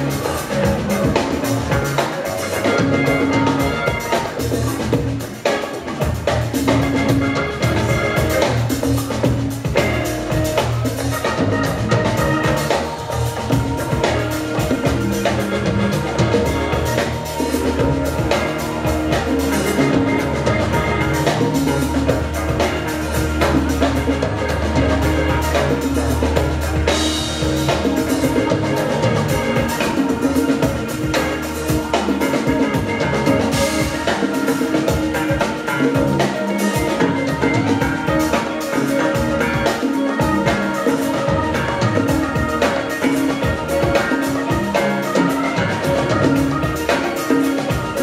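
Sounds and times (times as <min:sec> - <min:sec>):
drum kit: 0:00.0 - 0:48.0
electric bass: 0:00.0 - 0:48.0
live band playing: 0:00.0 - 0:48.0.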